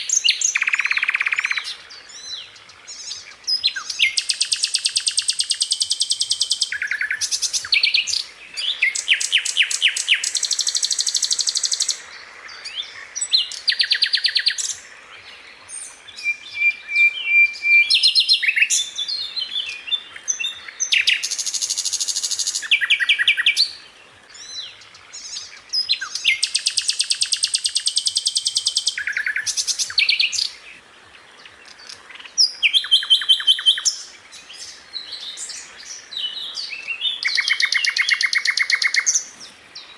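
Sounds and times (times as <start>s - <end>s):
flycatcher trilling song: 0.0s - 39.9s.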